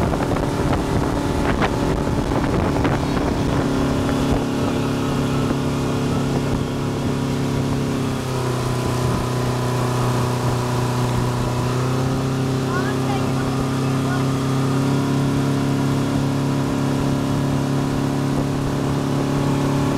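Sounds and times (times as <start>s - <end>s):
churning wake rushing: 0.0s - 19.9s
motorboat engine running: 0.0s - 19.9s.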